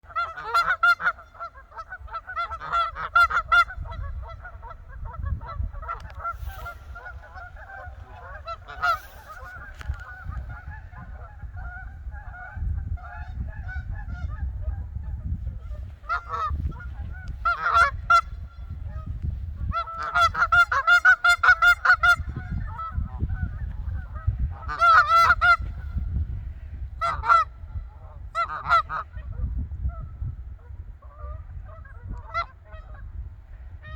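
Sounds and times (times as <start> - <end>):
geese honking: 0.1 - 26.0, 27.0 - 29.3, 31.1 - 33.1.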